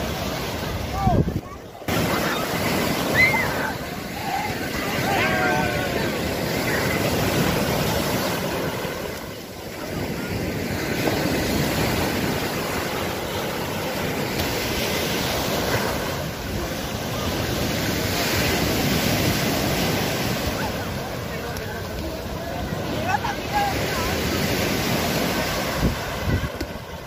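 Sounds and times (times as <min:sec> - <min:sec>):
surf washing up beach: 0:00.0 - 0:27.0.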